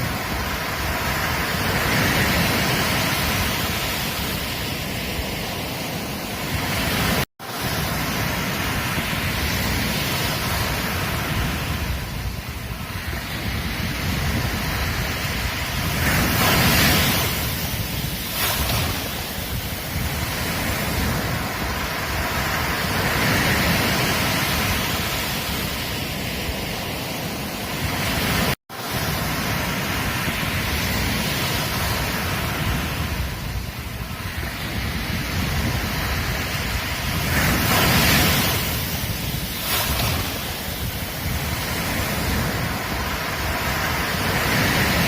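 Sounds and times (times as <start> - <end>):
ocean waves breaking on beach: 0.0 - 45.0.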